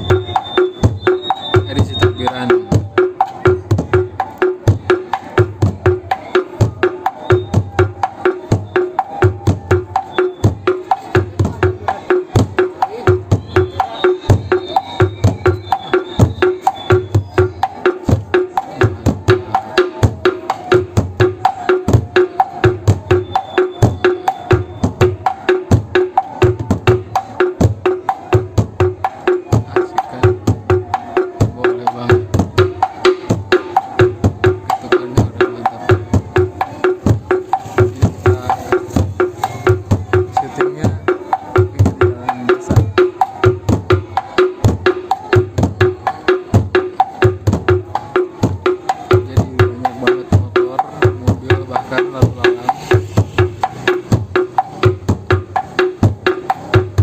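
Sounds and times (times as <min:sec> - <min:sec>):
large drum beaten rhythmically: 0:00.0 - 0:57.0.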